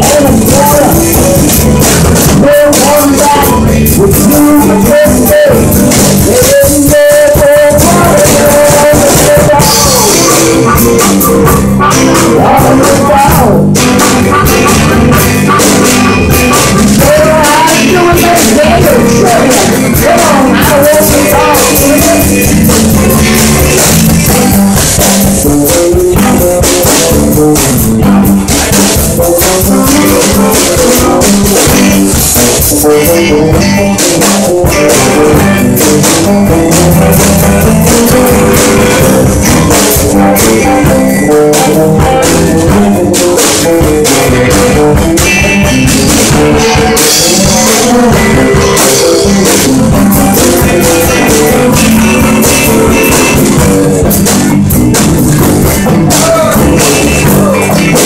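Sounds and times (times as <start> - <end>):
drum kit: 0.0 - 58.0
electric guitars: 0.0 - 58.0
harmonica bending notes: 0.0 - 58.0.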